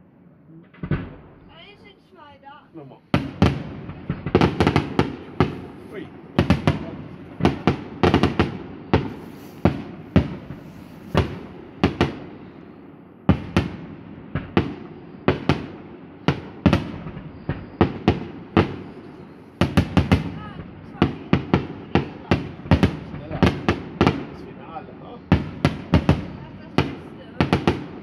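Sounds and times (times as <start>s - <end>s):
fireworks bangs: 0.6s - 28.0s.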